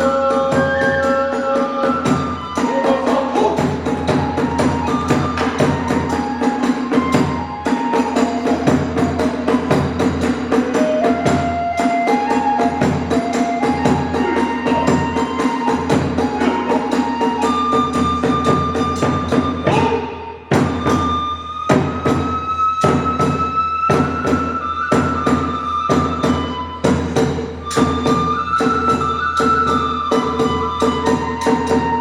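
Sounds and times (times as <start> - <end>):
bamboo flute melody: 0.0 - 32.0
hand cymbals: 0.0 - 32.0
rapid drum beats: 0.0 - 32.0.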